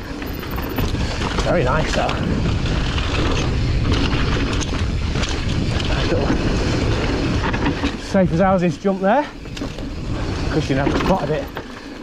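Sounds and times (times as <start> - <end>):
bike rattling and knocking: 0.0 - 12.0
wind rumbling on microphone: 0.0 - 12.0.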